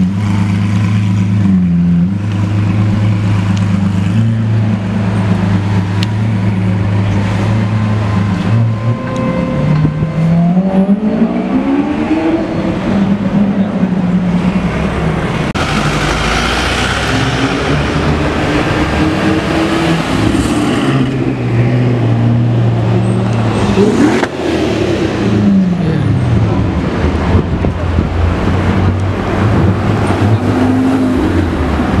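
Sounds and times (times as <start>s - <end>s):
car engines revving: 0.0s - 32.0s.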